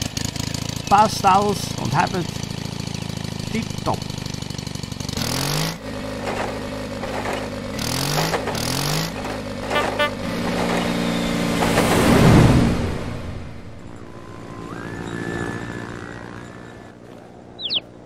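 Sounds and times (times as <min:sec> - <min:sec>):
tractor engine chugging and revving: 0:00.0 - 0:18.0.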